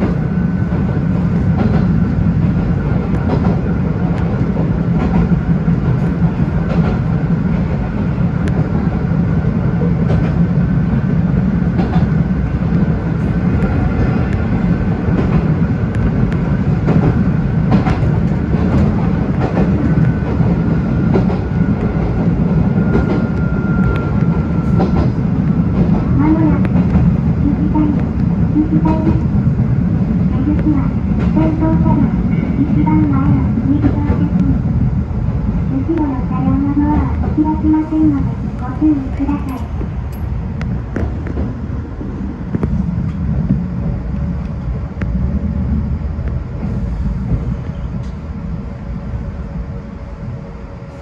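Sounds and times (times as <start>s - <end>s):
rail joint clicks: 0.0s - 34.6s, 35.5s - 48.4s
train wheels rumbling on rail: 0.0s - 51.0s.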